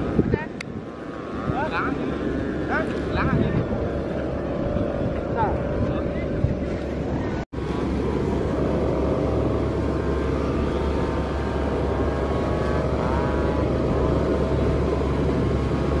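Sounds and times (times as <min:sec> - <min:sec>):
kite humming bow droning: 0:00.0 - 0:16.0.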